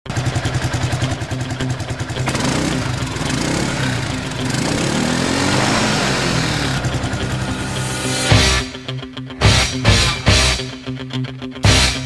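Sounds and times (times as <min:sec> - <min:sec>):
small engine idling and revving: 0:00.1 - 0:10.6.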